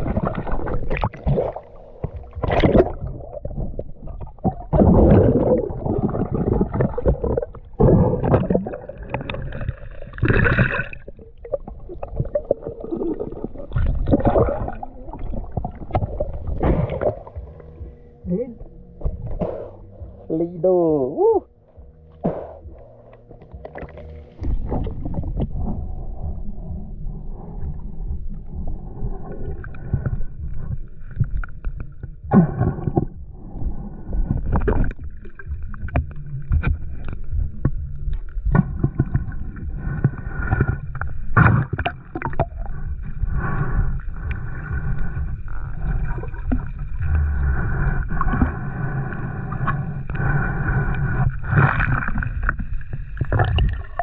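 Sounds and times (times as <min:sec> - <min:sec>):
faint steady whine: 0:00.0 - 0:53.2
water churning underwater: 0:00.0 - 0:54.0.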